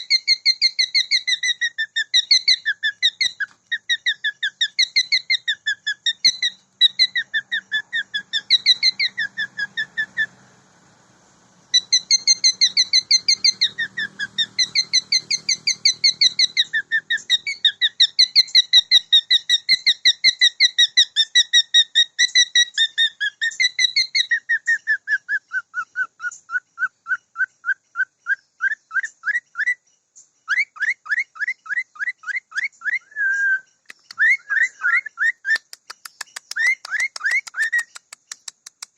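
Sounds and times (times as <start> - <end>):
cockatiel whistling: 0.0 - 10.3, 11.7 - 29.8, 30.5 - 35.7, 36.4 - 38.0.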